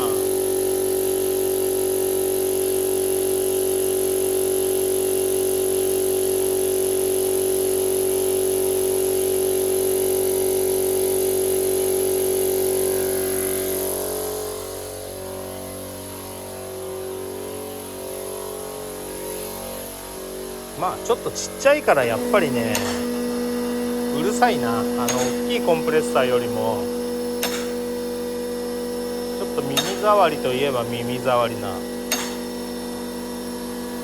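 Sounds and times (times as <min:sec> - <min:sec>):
air compressor whining: 0:00.0 - 0:34.0.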